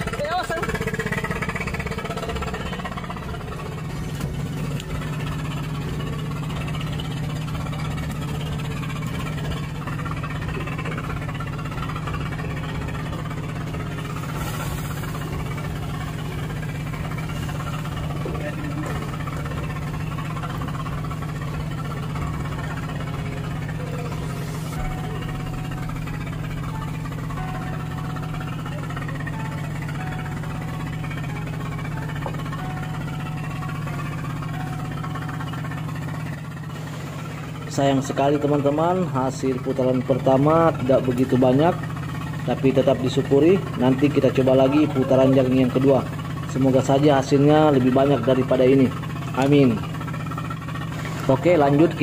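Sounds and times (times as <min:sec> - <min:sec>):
boat engine humming: 0:00.0 - 0:52.0.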